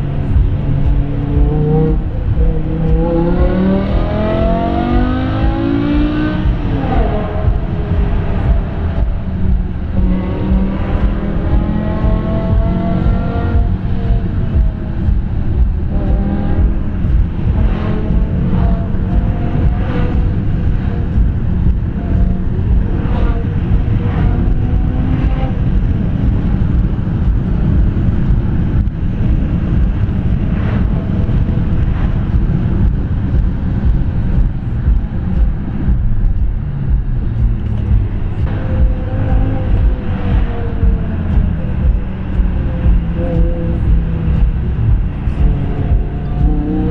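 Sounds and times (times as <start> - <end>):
car engine revving from inside cabin: 0.0 - 36.0, 36.8 - 46.9.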